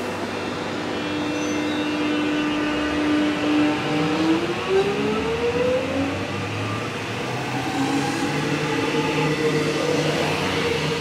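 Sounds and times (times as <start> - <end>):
electric train motor whine: 0.0 - 11.0
train running noise: 0.0 - 11.0.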